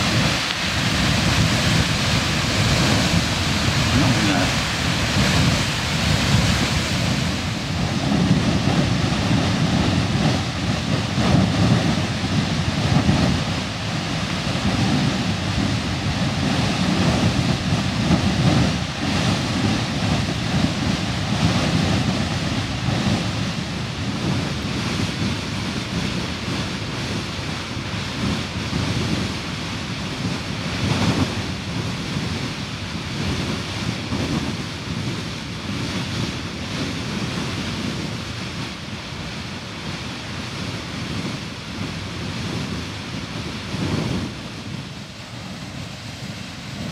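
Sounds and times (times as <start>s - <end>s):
geyser erupting roar: 0.0s - 46.9s
wind buffeting microphone: 0.0s - 46.9s.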